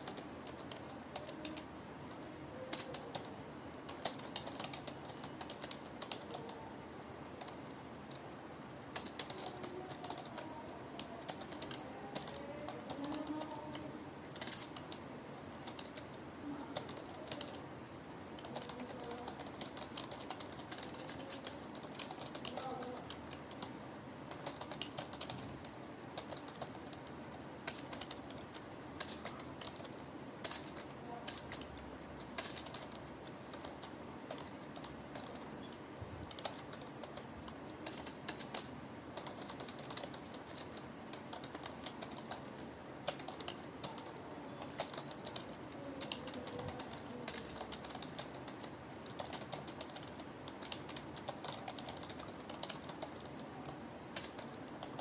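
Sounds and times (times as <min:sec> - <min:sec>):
computer keyboard typing: 0:00.0 - 0:06.7, 0:07.3 - 0:17.6, 0:18.3 - 0:55.0.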